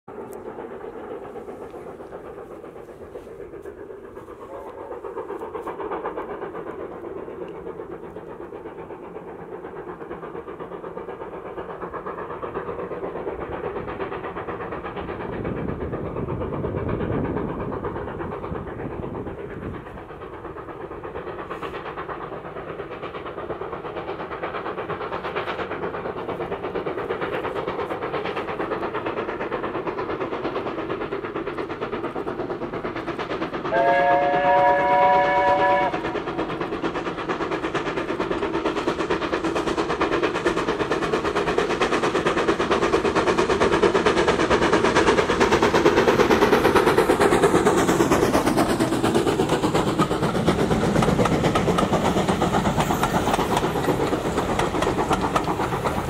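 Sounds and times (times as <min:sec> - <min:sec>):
steam locomotive exhaust beats: 0:00.1 - 0:56.0.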